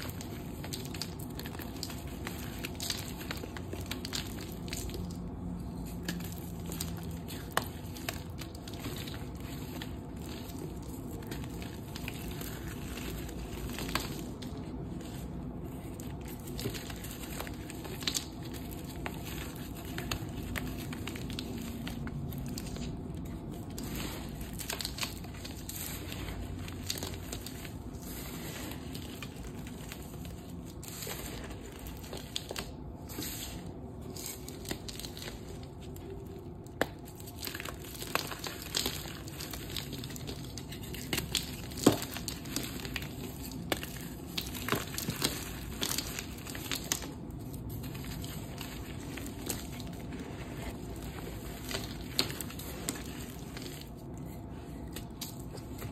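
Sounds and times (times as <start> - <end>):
hands crumbling chalk: 0.0 - 55.9.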